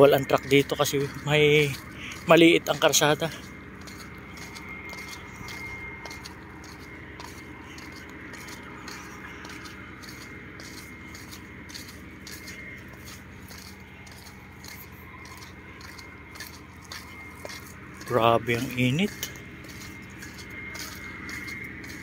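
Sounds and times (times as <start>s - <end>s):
crunching and scraping: 0.0s - 22.0s
low hum: 0.0s - 22.0s.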